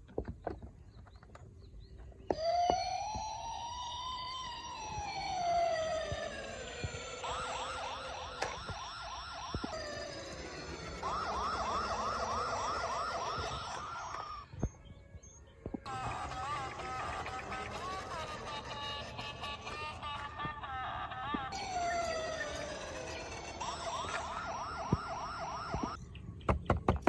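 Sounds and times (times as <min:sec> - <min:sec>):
toy police siren: 0:02.3 - 0:14.7, 0:15.8 - 0:26.0.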